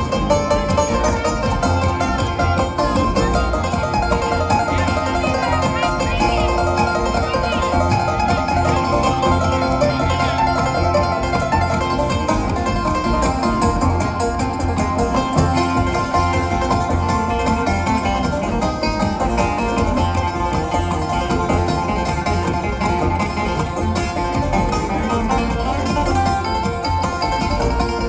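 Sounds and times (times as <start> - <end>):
acoustic guitar: 0.0 - 28.0
banjo picking: 0.0 - 28.0
mandolin: 0.0 - 28.0
upright bass: 0.0 - 28.0.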